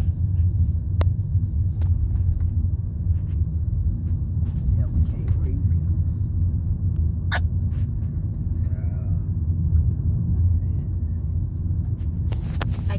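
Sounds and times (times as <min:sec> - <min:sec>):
car cabin rumble: 0:00.0 - 0:12.9.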